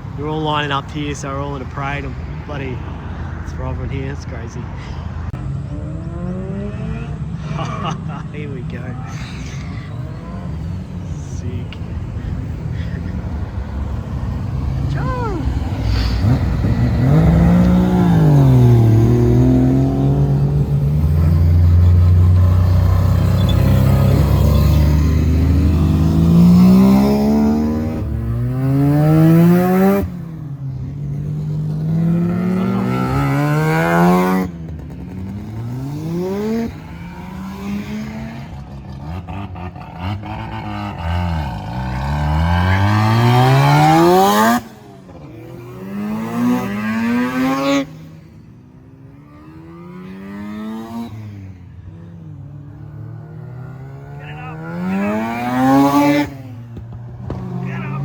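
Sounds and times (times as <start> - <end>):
car engines accelerating hard: 0.0 - 58.0.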